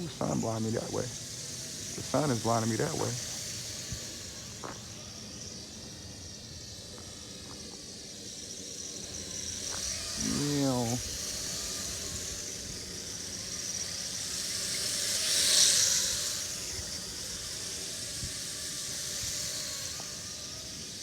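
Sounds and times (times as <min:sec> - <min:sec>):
quadcopter drone whining: 0:00.0 - 0:21.0.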